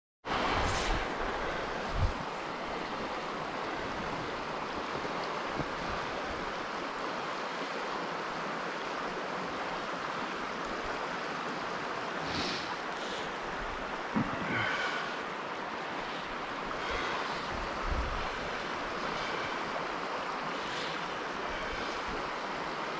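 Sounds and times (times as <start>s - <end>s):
creek water rushing: 0.2s - 22.9s.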